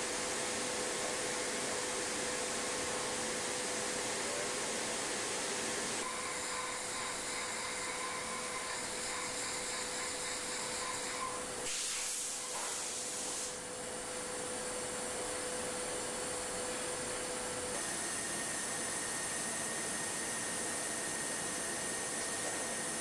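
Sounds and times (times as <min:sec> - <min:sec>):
machine hiss with hum: 0:00.0 - 0:23.0.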